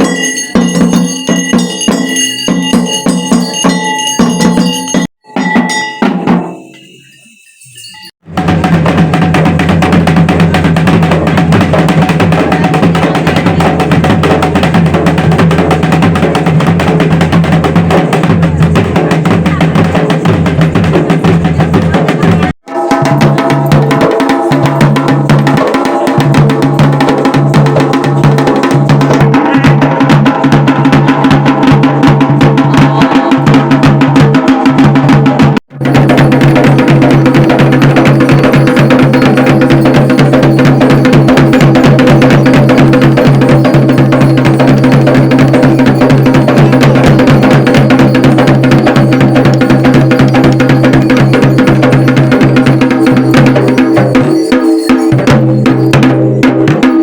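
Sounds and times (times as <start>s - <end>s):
fast drumming music: 0.0s - 57.0s.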